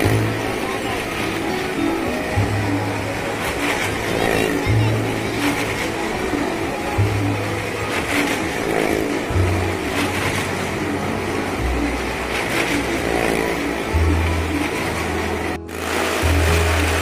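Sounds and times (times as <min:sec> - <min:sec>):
motorcycle engine revving: 0:00.0 - 0:01.5, 0:02.4 - 0:17.0.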